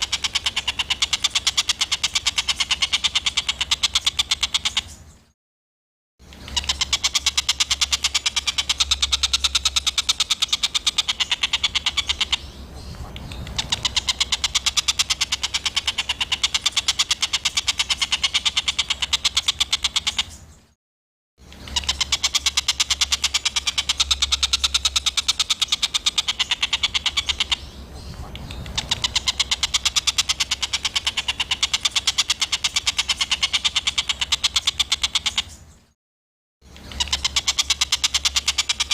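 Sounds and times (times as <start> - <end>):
bird chattering chip notes: 0.0 - 5.1, 6.3 - 20.5, 21.5 - 35.7, 36.7 - 38.9.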